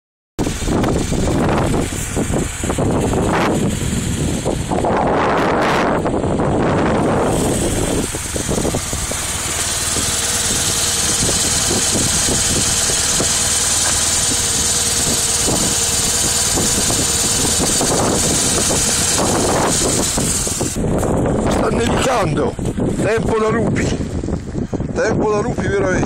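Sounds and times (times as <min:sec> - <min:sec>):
motorcycle engine running: 0:00.4 - 0:24.9.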